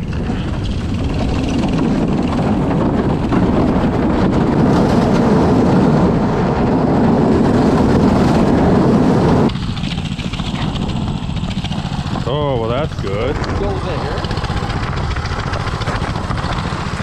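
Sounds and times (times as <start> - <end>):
mini bike engine running hard: 0.0 - 17.0
sled scraping over ice: 0.0 - 17.0.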